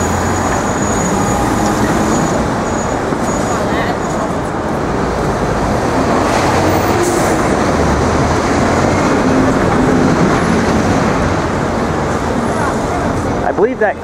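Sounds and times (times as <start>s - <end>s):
heavy street traffic rumble: 0.0s - 14.0s.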